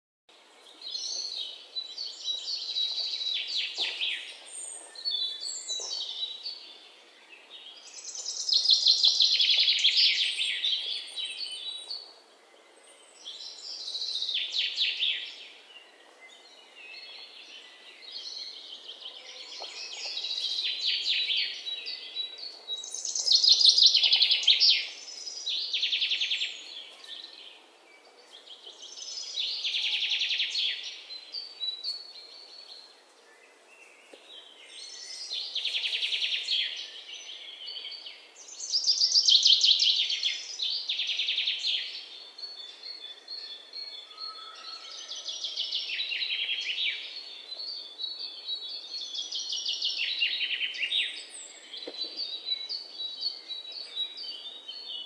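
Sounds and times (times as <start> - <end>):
birds chirping and trilling: 0.6 - 55.0.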